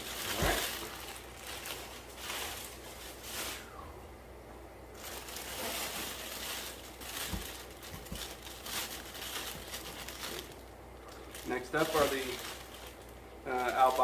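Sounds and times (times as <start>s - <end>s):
plastic bags crinkling: 0.0s - 3.7s, 4.9s - 14.0s.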